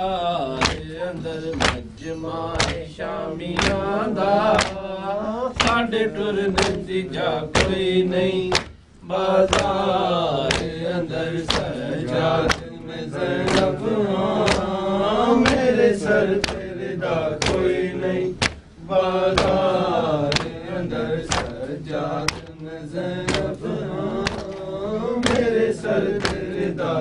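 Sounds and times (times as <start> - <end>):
men chanting a lament: 0.0 - 27.0.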